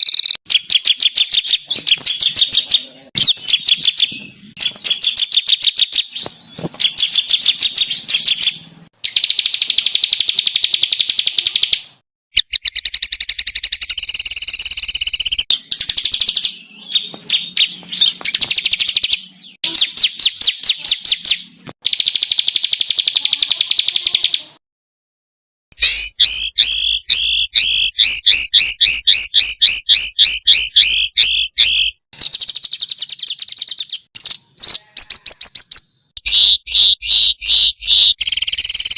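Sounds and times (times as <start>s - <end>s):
songbirds trilling: 0.0s - 24.6s, 25.8s - 38.9s.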